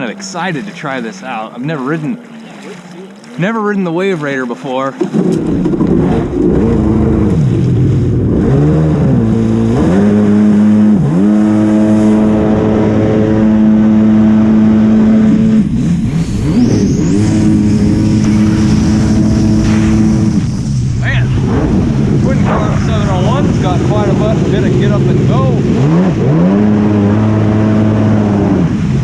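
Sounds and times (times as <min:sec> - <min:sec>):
jet ski engine revving: 0:00.0 - 0:29.0.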